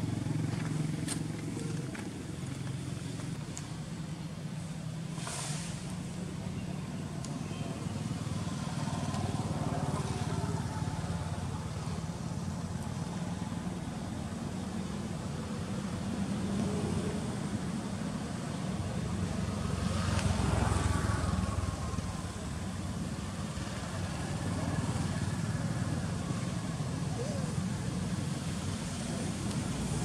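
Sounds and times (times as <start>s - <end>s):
motor traffic rumble: 0.0s - 30.0s.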